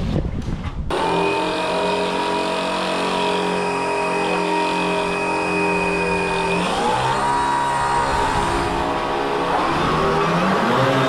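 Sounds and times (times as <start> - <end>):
electric motor whine: 0.9 - 11.0.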